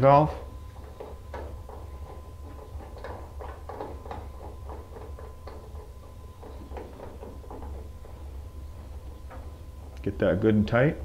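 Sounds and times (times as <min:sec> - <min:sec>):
steady low hum: 0:00.0 - 0:11.0
hose coupling threads clicking: 0:00.8 - 0:10.1.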